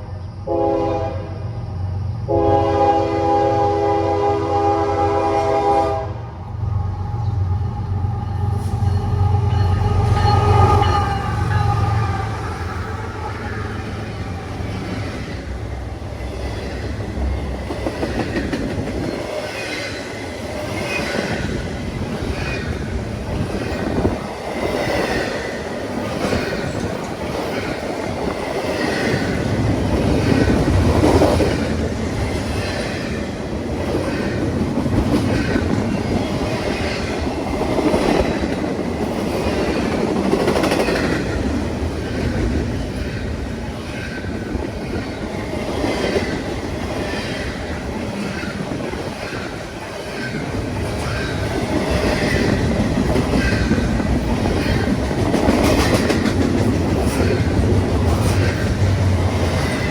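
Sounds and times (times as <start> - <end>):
train rumble: 0.0 - 59.9
train wheels clickety-clack: 8.5 - 59.9.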